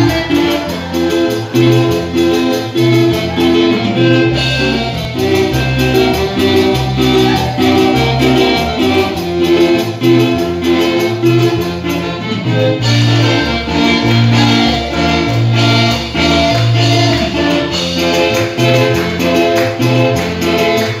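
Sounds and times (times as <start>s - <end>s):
button accordion melody: 0.0s - 21.0s
percussion beat: 0.0s - 21.0s
plucked electric bass: 0.0s - 21.0s.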